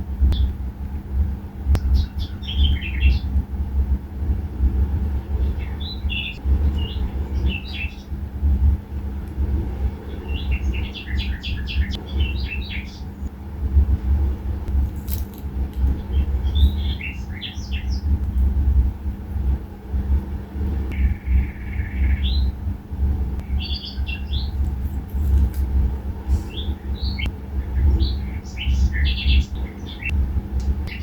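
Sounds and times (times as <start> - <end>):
small songbirds chirping: 0.0 - 0.6, 1.7 - 31.0
steady low rumble: 0.0 - 31.0.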